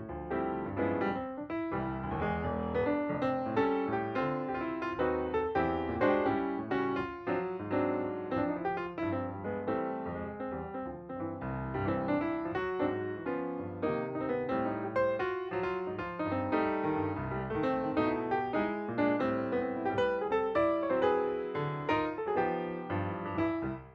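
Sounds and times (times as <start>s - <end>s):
piano music: 0.0s - 23.9s.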